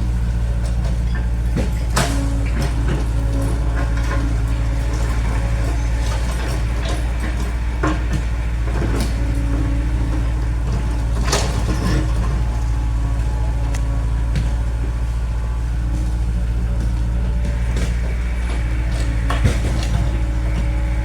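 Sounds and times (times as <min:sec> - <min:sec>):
diesel engine running: 0:00.0 - 0:21.0
metal knocks and clanks: 0:00.5 - 0:21.0.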